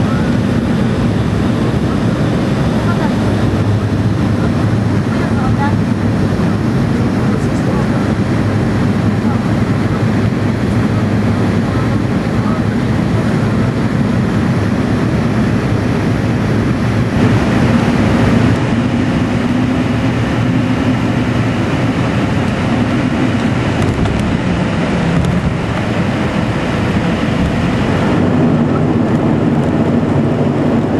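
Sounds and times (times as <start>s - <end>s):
rushing air: 0.0s - 30.9s
turboprop engine drone: 0.0s - 30.9s.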